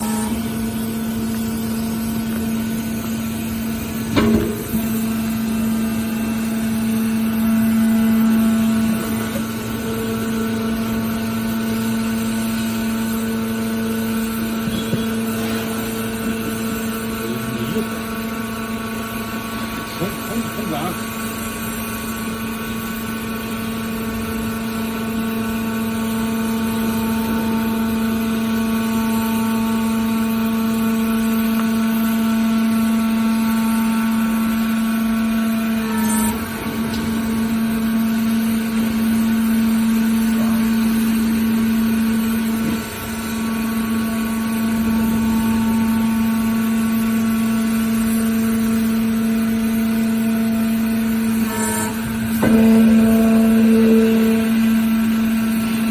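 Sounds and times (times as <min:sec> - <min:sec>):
hydraulic power unit humming: 0:00.0 - 0:55.9.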